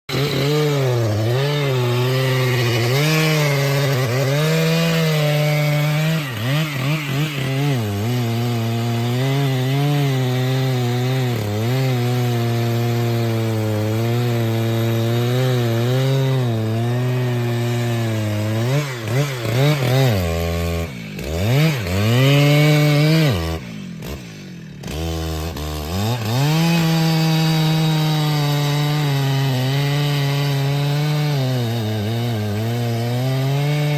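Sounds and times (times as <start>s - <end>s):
chainsaw cutting wood: 0.1s - 33.9s.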